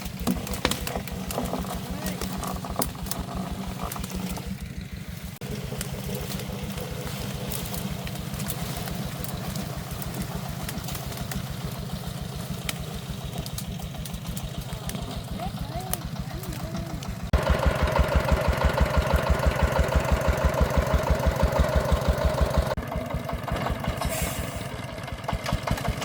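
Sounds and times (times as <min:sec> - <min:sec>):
diesel engine idling thumping: 0:00.0 - 0:26.0.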